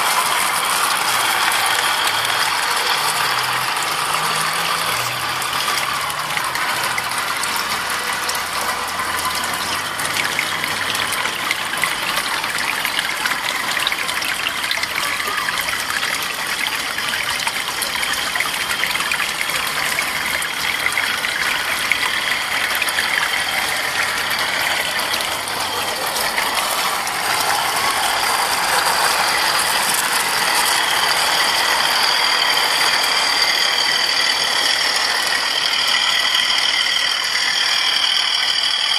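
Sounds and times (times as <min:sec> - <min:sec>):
model train motor whine: 0:00.0 - 0:38.9
train wheels clicking over rails: 0:00.0 - 0:38.9.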